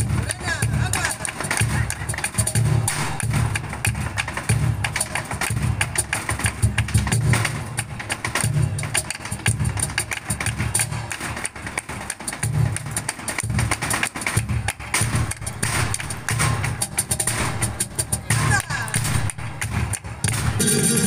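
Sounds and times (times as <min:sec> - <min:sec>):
cajon drumming: 0:00.0 - 0:21.0
dancer's feet stamping a stage: 0:00.0 - 0:21.0
hand-clapping: 0:00.0 - 0:21.0.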